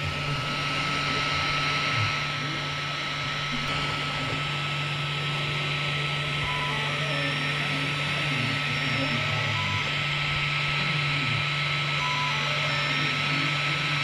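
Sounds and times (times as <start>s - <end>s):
constant low hum: 0.0s - 14.0s
fans whirring: 0.0s - 14.0s.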